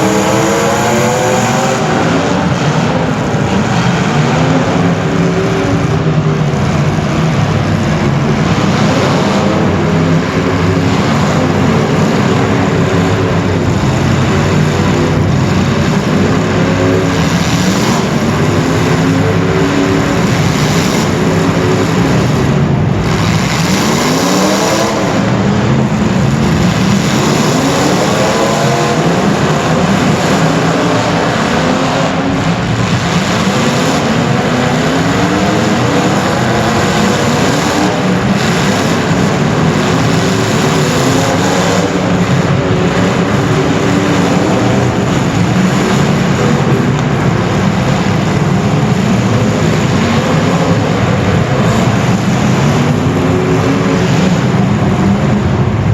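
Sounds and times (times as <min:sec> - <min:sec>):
racing engines revving: 0:00.0 - 0:55.9.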